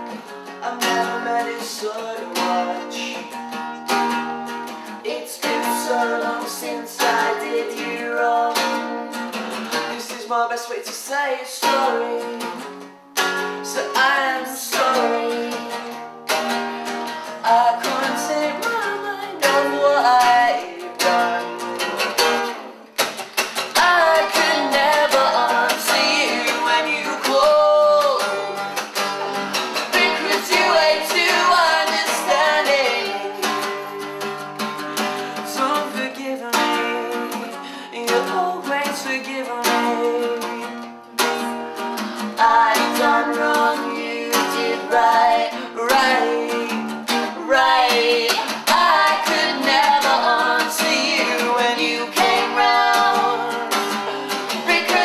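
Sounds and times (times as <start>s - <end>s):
man singing: 0.0s - 3.4s, 5.0s - 9.0s, 9.7s - 12.7s, 13.6s - 16.0s, 17.2s - 22.6s, 23.6s - 29.0s, 29.7s - 34.4s, 35.2s - 40.8s, 42.3s - 55.0s
acoustic guitar strumming: 0.0s - 55.0s.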